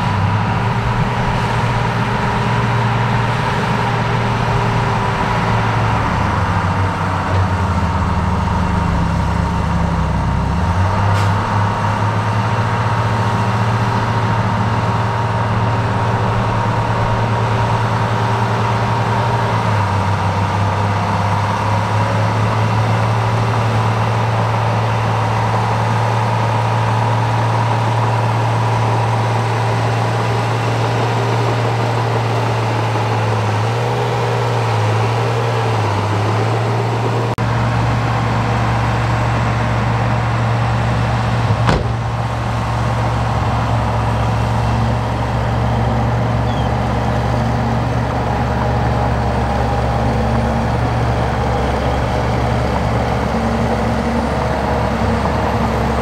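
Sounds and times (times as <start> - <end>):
heavy diesel machinery droning: 0.0 - 56.0.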